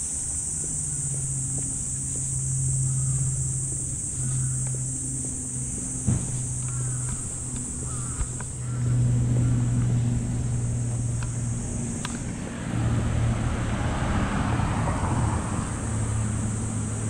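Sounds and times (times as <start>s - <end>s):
road traffic hum: 0.0s - 17.0s
vehicle passing: 0.0s - 17.0s.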